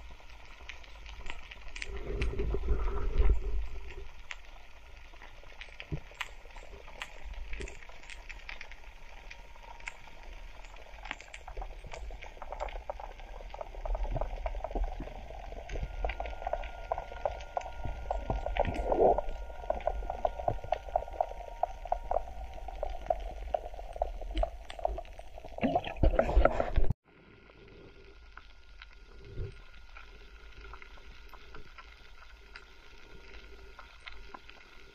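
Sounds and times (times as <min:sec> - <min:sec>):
underwater clicks and bubbling: 0:00.0 - 0:34.9.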